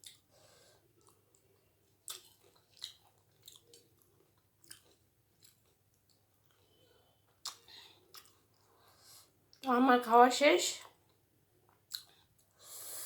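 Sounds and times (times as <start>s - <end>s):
close-up chewing: 0.0s - 9.3s, 10.8s - 12.6s.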